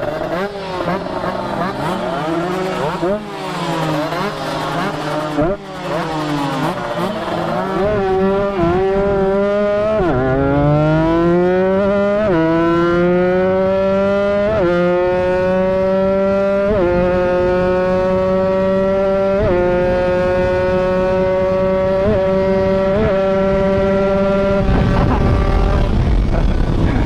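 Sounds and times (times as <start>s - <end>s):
two-stroke motorcycle engine accelerating: 0.0s - 27.0s.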